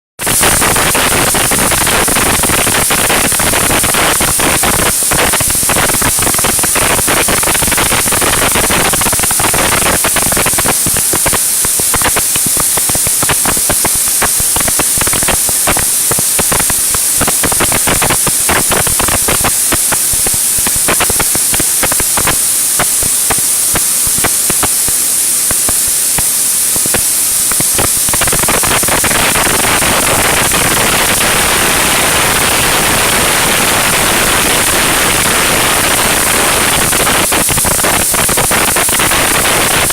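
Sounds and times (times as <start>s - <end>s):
flour milling machine running: 0.2s - 39.9s.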